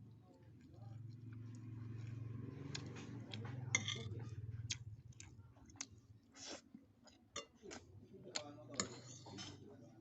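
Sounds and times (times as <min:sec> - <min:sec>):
chewing: 0:00.3 - 0:08.9.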